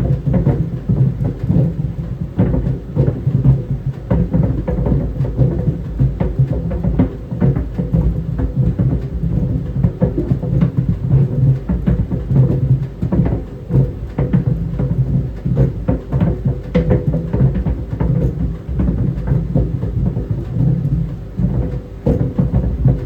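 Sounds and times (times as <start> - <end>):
balls thudding in dryer drum: 0.0 - 23.0.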